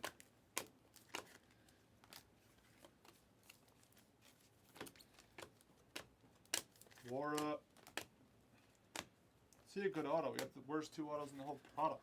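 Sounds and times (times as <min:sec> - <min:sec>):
trading cards being handled: 0:00.0 - 0:12.0.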